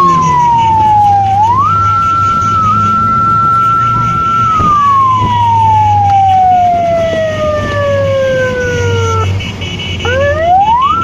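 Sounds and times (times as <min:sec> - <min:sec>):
siren wailing: 0:00.0 - 0:09.4, 0:10.0 - 0:11.0.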